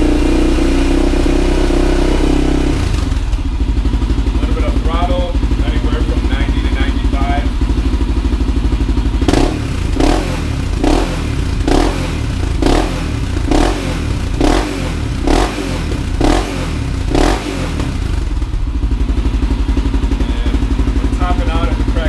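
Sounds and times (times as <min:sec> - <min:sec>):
engine revving and idling: 0:00.0 - 0:22.0.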